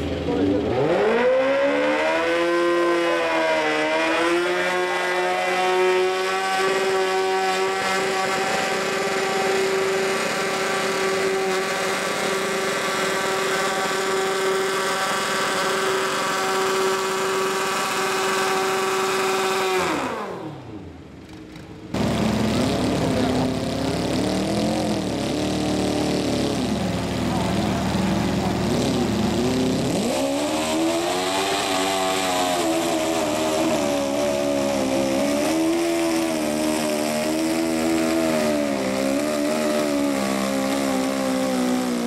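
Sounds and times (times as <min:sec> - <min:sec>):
lawn mower engine at full throttle: 0:00.0 - 0:42.0.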